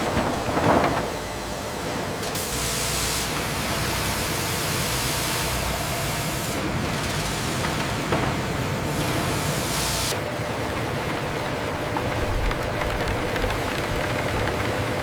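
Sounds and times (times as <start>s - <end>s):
industrial machine hiss and rumble: 0.0s - 15.0s.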